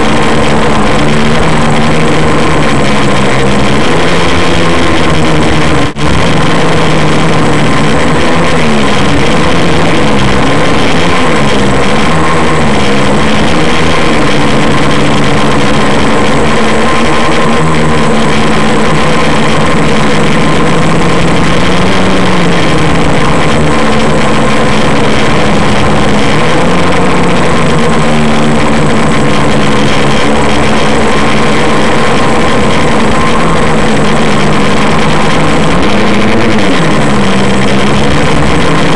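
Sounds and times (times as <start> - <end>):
quadcopter motors and propellers: 0.0 - 38.9.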